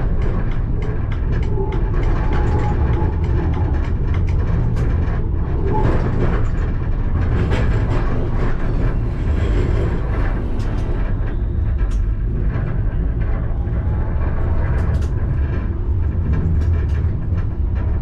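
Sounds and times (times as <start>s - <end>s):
clicks and knocks of wheels: 0.0s - 18.0s
tram rumble on track: 0.0s - 18.0s.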